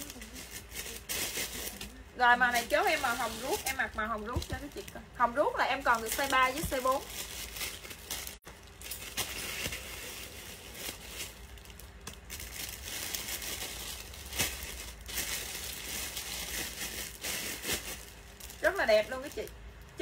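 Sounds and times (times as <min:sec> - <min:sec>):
clothing rustling and crinkling: 0:00.0 - 0:20.0.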